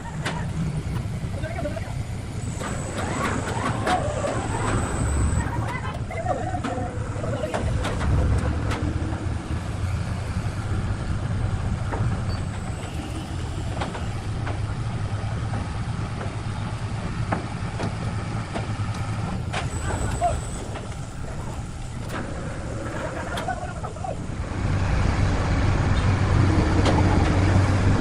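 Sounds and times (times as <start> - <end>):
heavy engine rumbling: 0.0 - 28.0.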